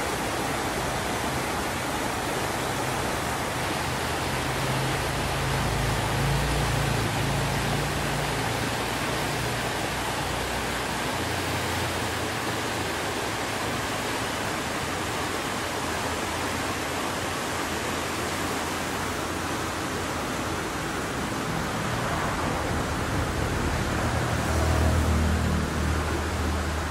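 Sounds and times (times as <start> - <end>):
stream rushing over rocks: 0.0 - 26.9.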